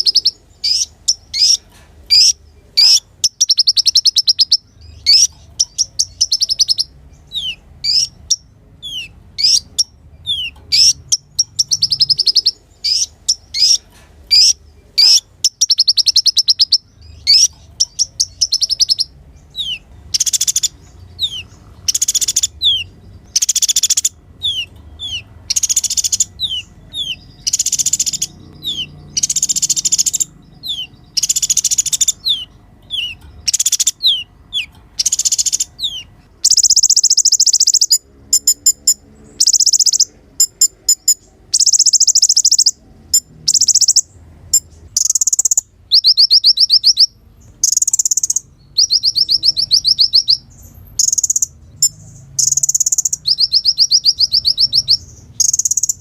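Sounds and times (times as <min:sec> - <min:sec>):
sunbird twittering song: 0:00.0 - 0:56.0.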